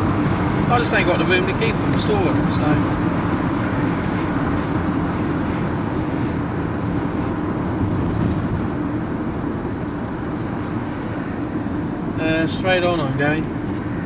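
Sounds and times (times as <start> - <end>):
engine and road noise inside vehicle: 0.0 - 14.0.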